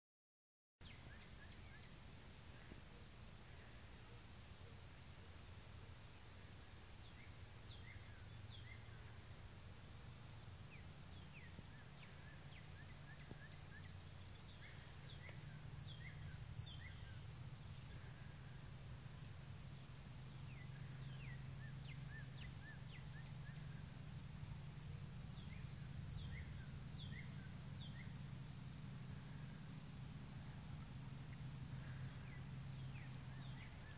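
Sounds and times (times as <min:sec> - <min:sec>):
faint low hum: 0:00.8 - 0:33.9
high-pitched insect trill: 0:00.8 - 0:33.9
insect buzz: 0:00.8 - 0:33.9.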